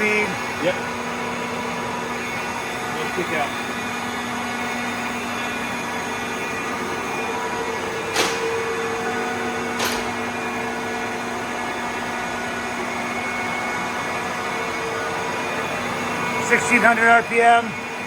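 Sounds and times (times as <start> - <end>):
milling machine humming and whining: 0.0 - 18.0.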